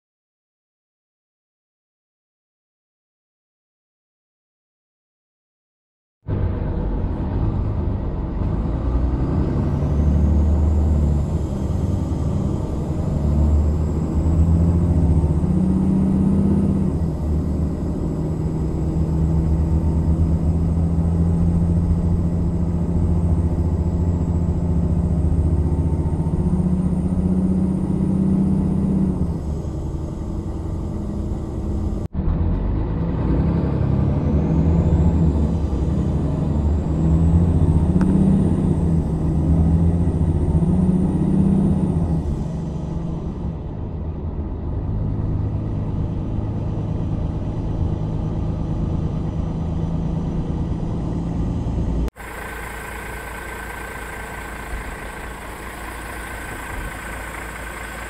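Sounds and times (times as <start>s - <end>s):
bus diesel engine drone: 6.3s - 58.0s.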